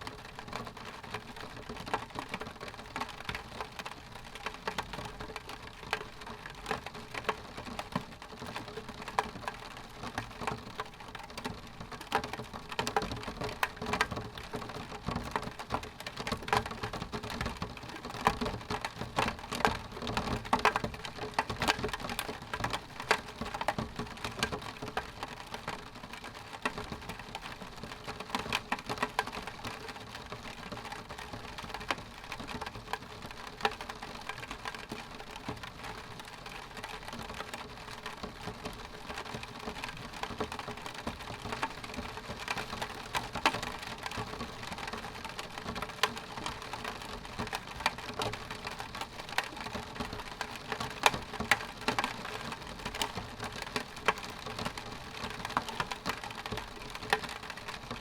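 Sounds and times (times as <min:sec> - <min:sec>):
raindrops ticking on window glass: 0:00.0 - 0:58.0.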